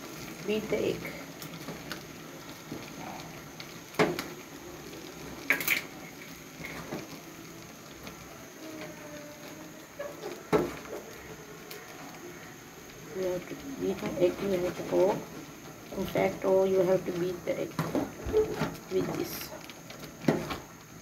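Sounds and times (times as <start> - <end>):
porridge bubbling and sloshing: 0.0 - 21.0.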